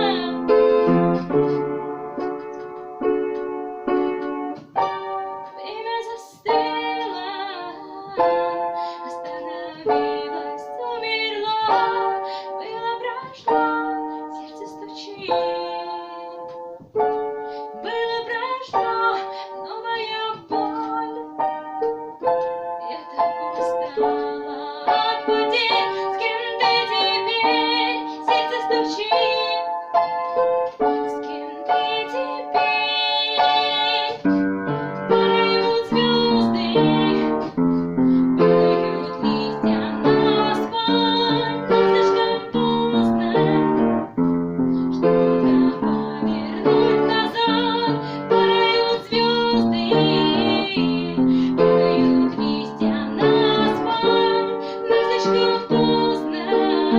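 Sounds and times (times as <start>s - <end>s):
piano playing chords: 0.0s - 56.9s.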